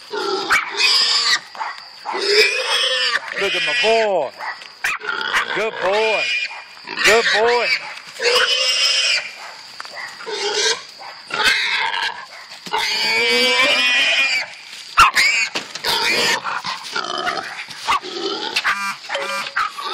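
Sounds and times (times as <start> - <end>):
hog squealing: 0.1 - 1.5, 2.1 - 9.4, 10.2 - 19.9.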